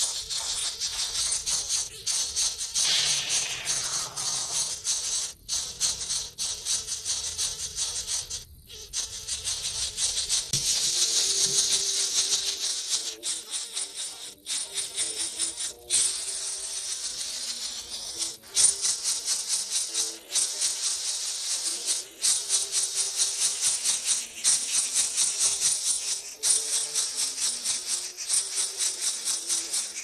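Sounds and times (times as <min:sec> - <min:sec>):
nestling birds begging chatter: 0:00.0 - 0:30.0.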